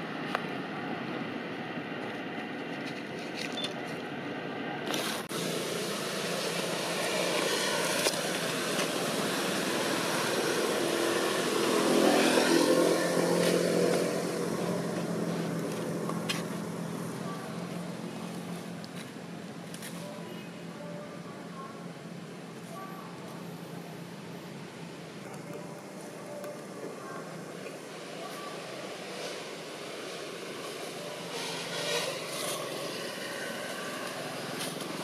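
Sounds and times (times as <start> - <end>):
traffic hum: 0.0 - 35.0
vehicle engine running: 4.1 - 35.0.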